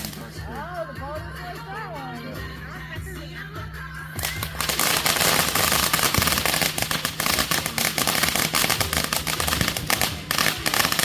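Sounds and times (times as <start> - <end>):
fireworks crackling: 0.0 - 2.2, 4.2 - 11.0.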